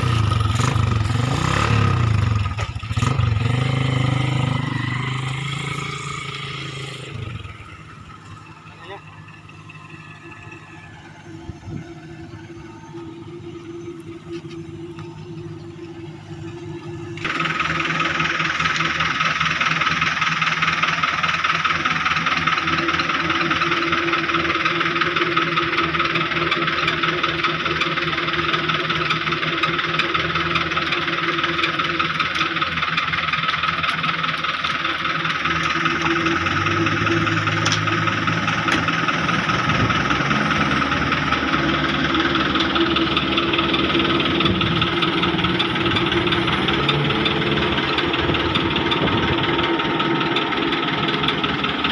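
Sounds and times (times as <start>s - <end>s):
diesel engines running: 0.0s - 51.9s.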